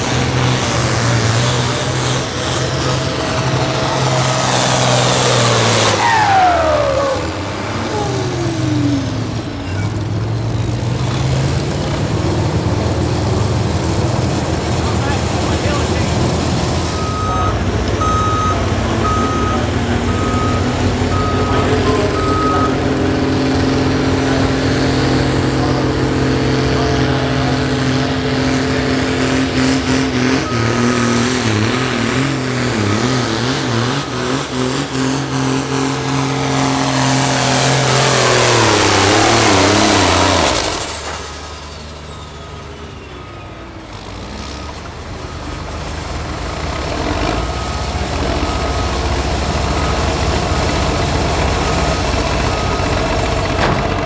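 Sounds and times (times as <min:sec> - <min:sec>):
diesel tractor engine at full throttle: 0:00.0 - 0:54.0.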